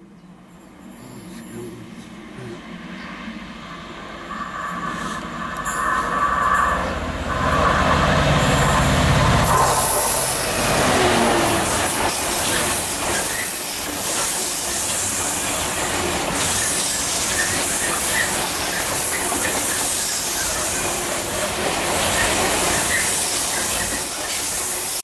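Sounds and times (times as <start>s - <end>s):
train wheels rumbling on rails: 0.5s - 25.0s.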